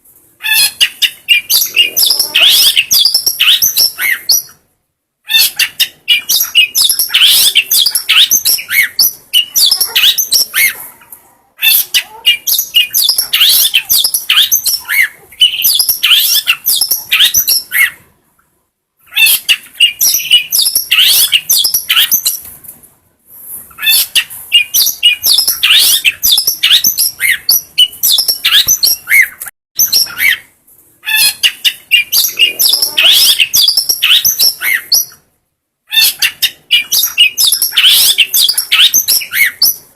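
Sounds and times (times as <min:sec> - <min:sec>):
bird chirping and whistling: 0:00.4 - 0:04.6, 0:05.3 - 0:10.8, 0:11.6 - 0:18.0, 0:19.1 - 0:22.4, 0:23.8 - 0:35.2, 0:35.9 - 0:39.8.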